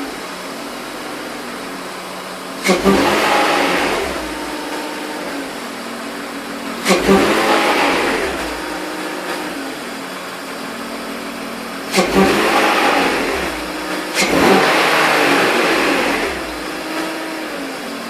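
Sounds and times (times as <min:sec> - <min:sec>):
car engine idling: 0:00.0 - 0:18.0
engine revving: 0:00.0 - 0:18.0.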